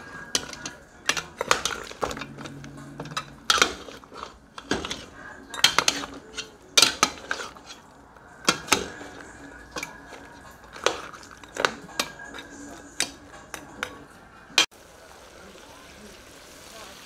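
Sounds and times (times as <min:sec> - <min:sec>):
metal spoon scraping pot: 0:00.0 - 0:14.7.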